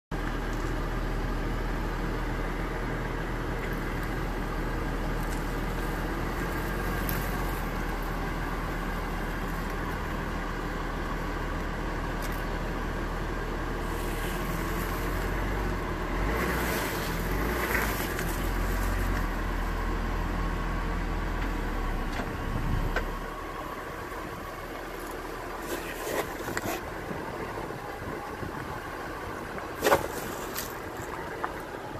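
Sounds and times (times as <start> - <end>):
car engine running: 0.1 - 31.9.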